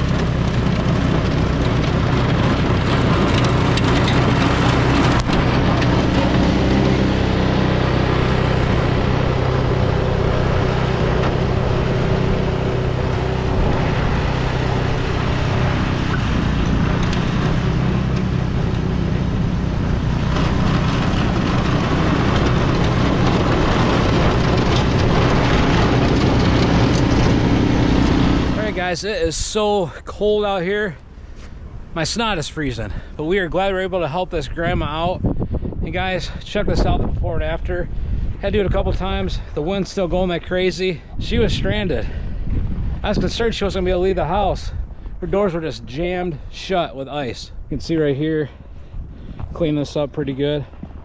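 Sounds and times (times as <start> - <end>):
heavy wind noise: 0.0 - 30.6, 31.6 - 51.0
vehicle engine running: 0.0 - 51.0.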